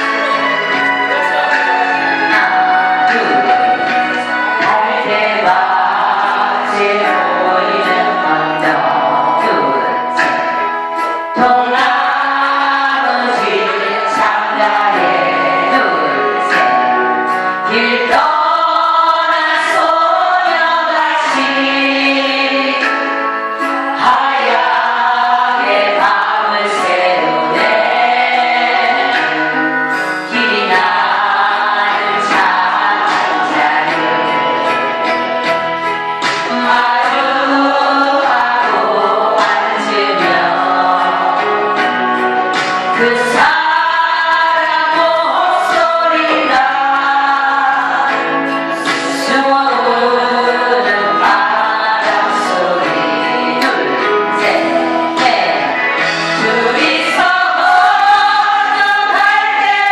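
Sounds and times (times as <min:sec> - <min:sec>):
ballad singing with instruments: 0:00.0 - 0:59.9.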